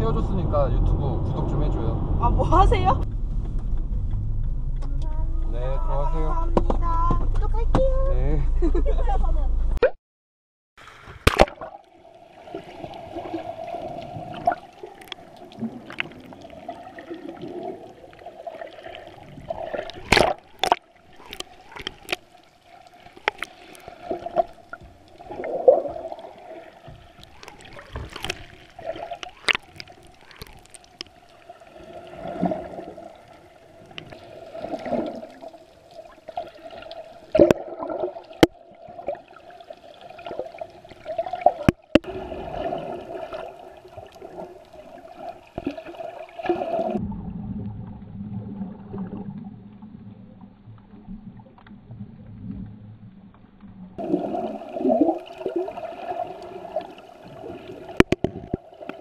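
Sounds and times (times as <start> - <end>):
muffled underwater water sloshing: 10.8 - 59.0.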